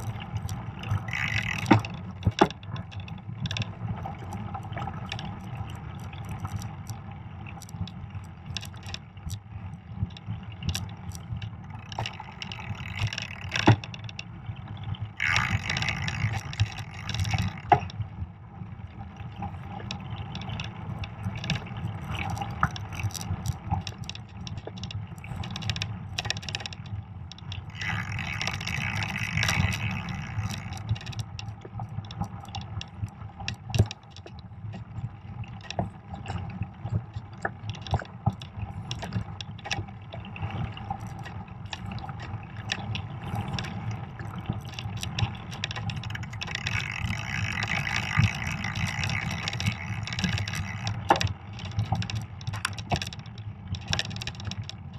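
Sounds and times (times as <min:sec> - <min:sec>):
bike clicks and rattles: 0:00.0 - 0:18.3, 0:19.0 - 0:54.9.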